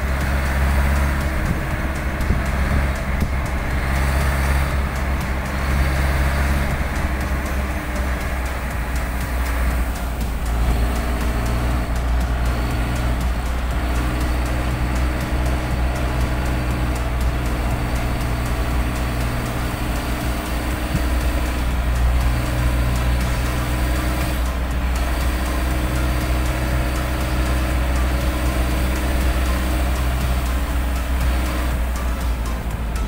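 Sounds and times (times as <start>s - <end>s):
engine hum: 0.0s - 33.0s
wet road noise: 0.0s - 33.0s.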